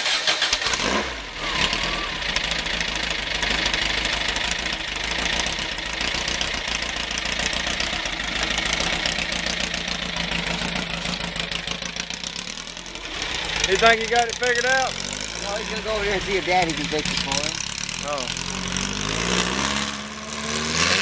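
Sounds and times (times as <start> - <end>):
engine idling: 0.0 - 20.5.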